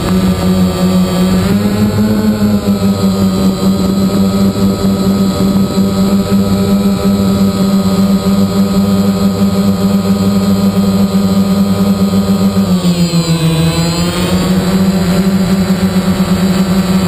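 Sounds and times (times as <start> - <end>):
drone motors and propellers humming: 0.0 - 17.0.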